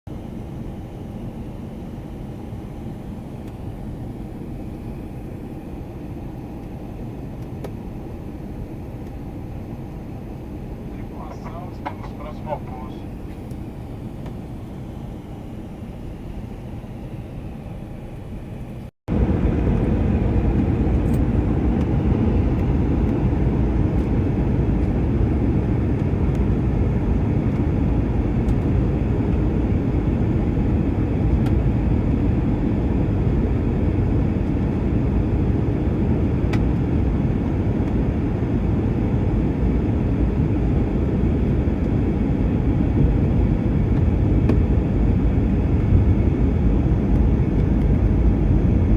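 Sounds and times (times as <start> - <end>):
airliner engine rumble in cabin: 0.1 - 48.9.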